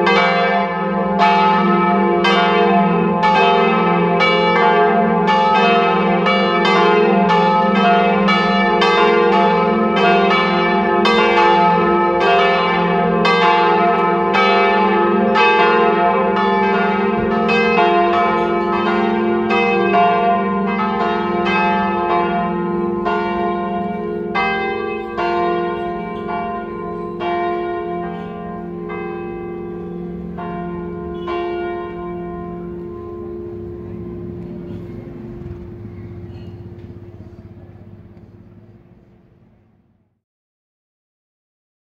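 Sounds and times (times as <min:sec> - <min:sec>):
church bells pealing: 0:00.0 - 0:39.5.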